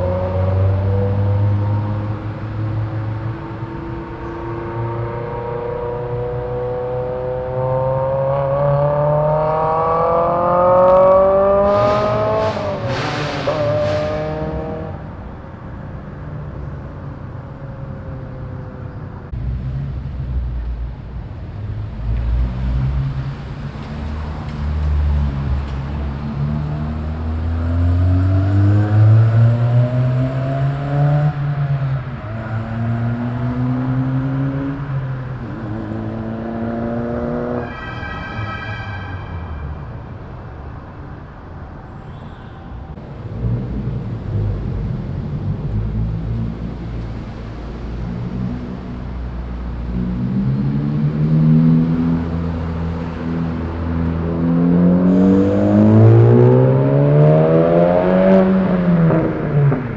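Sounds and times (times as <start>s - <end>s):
car engines revving: 0.0s - 38.5s, 42.9s - 59.9s.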